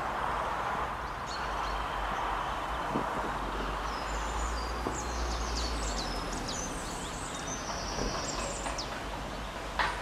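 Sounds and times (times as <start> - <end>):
songbirds chirping: 0.3 - 10.0.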